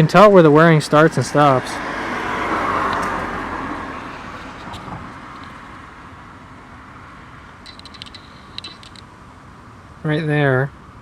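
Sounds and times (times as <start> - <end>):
passing motor vehicle: 0.0 - 10.0.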